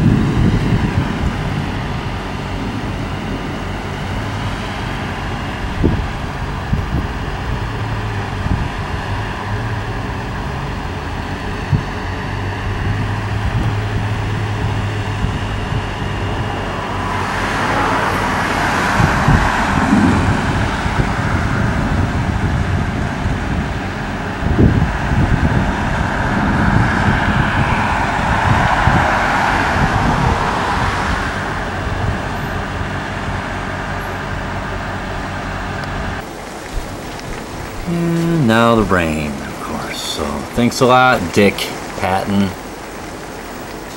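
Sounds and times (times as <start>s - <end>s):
low rumbling: 0.0s - 43.7s
cars passing on road: 0.0s - 43.9s.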